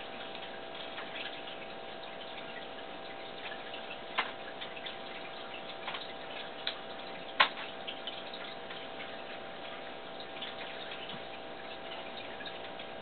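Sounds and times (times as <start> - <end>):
faint hum: 0.0 - 13.0
small ticks: 0.1 - 13.0.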